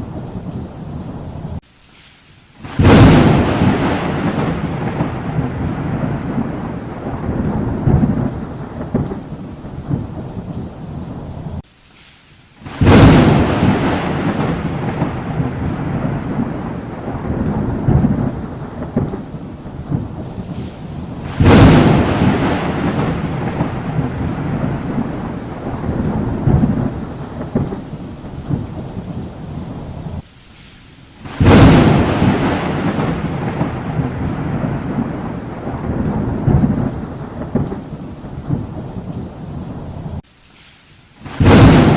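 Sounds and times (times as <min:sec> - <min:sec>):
thunderclaps with low rumble: 0:00.0 - 0:01.6, 0:02.6 - 0:11.6, 0:12.7 - 0:30.2, 0:31.2 - 0:40.2, 0:41.2 - 0:41.9
steady rain: 0:00.0 - 0:41.9.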